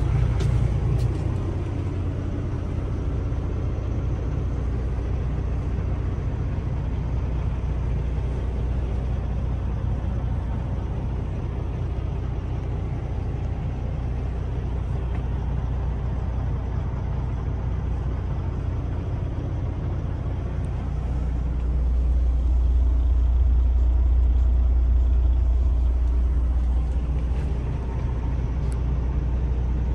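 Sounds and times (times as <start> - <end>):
diesel truck engine idling: 0.0 - 29.9.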